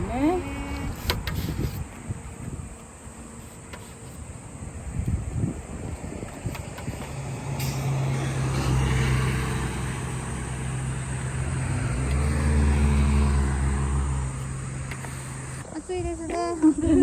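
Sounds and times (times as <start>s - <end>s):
vehicle engine humming: 0.0s - 16.3s.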